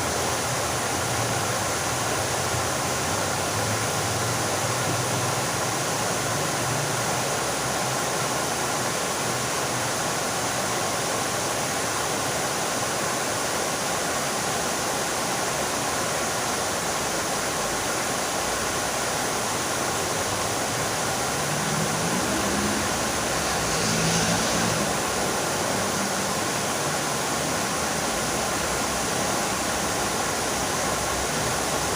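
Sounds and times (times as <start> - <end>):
fountain water splashing: 0.0 - 31.9.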